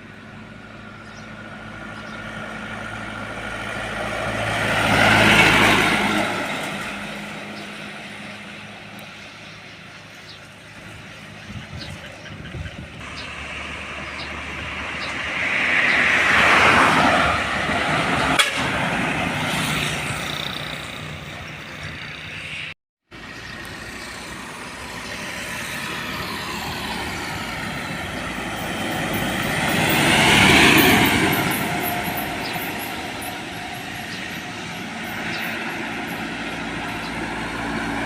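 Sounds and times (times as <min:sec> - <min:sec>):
heavy trucks passing: 0:00.0 - 0:38.0.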